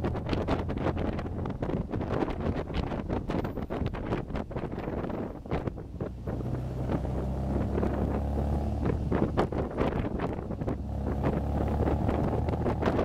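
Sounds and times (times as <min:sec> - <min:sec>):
car engine running: 0:00.0 - 0:13.0
wind buffeting microphone: 0:00.0 - 0:13.0.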